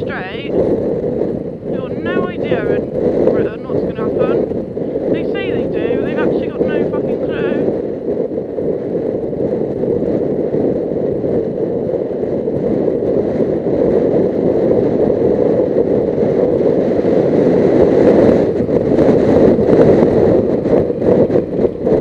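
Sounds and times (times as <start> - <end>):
wind rushing: 0.0 - 22.0.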